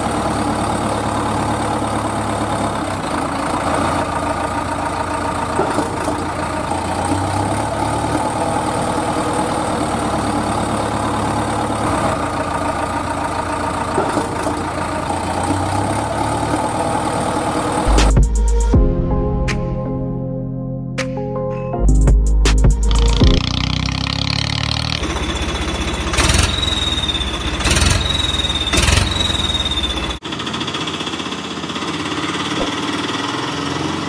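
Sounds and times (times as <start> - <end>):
truck engine idling: 0.0 - 18.7, 21.9 - 34.0.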